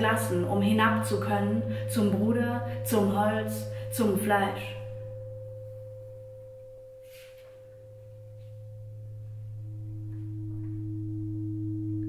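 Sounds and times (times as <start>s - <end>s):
ambient drone of pure tones: 0.0s - 12.0s.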